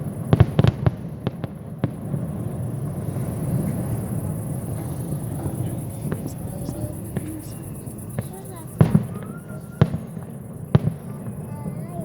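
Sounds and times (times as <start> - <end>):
fireworks bangs: 0.0 - 12.0
fireworks low rumble: 0.0 - 12.0.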